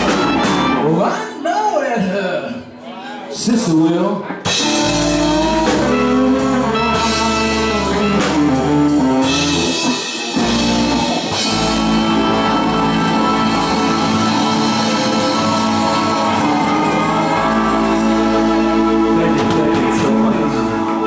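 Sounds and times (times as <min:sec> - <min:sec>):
drums with cymbal hits: 0:00.0 - 0:00.8, 0:04.5 - 0:21.0
bass line: 0:00.0 - 0:01.0, 0:04.5 - 0:21.0
guitar lines: 0:00.0 - 0:01.4, 0:04.2 - 0:21.0.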